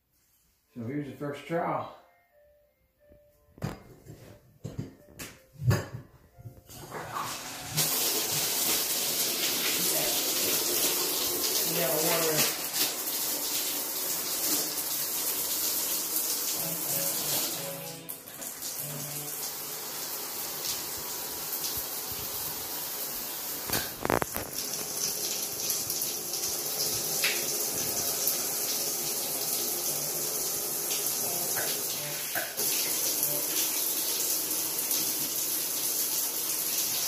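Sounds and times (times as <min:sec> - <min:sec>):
shower water spraying and splashing: 0:06.8 - 0:37.0.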